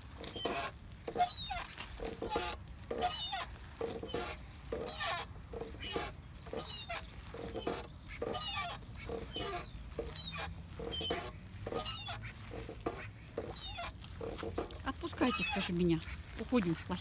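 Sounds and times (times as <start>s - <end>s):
swing squeaking: 0.2s - 17.0s.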